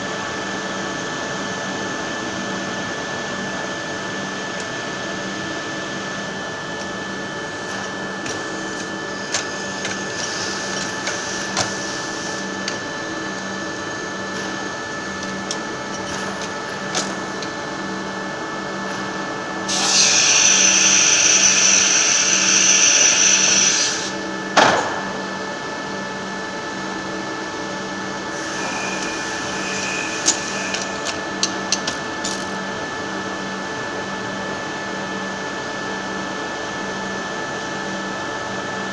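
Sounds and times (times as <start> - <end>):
loud high machine noise: 0.0 - 36.6
milling machine humming: 1.1 - 34.2.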